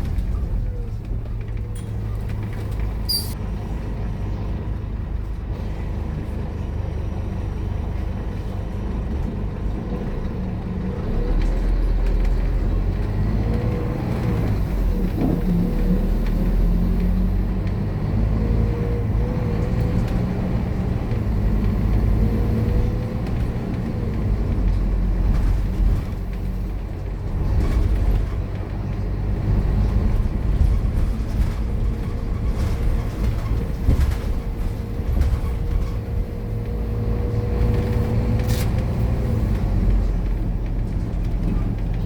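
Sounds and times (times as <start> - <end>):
bus diesel engine rumble: 0.0 - 42.0.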